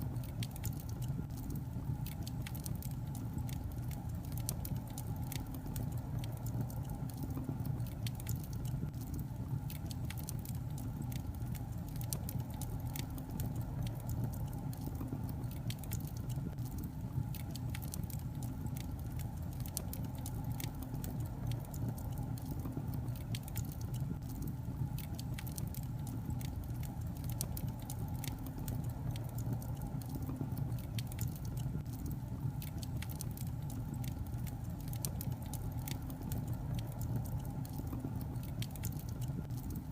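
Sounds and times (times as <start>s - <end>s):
logs crackling and popping: 0.0s - 39.9s
low fire rumble: 0.0s - 39.9s.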